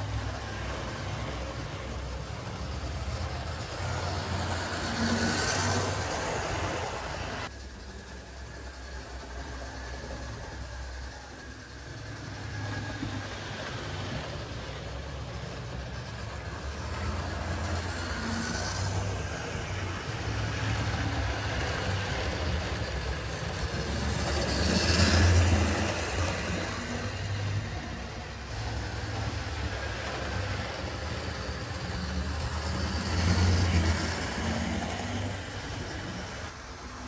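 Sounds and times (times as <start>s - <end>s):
model trains rumbling on track: 0.0s - 37.0s.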